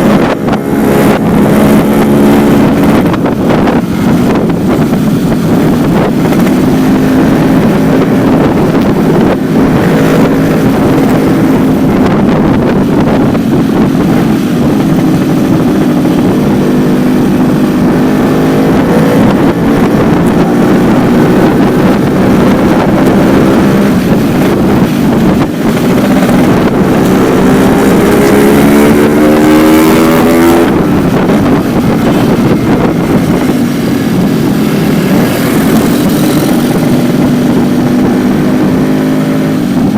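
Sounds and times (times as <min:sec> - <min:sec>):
two-stroke motorcycle exhaust: 0:00.0 - 0:39.9.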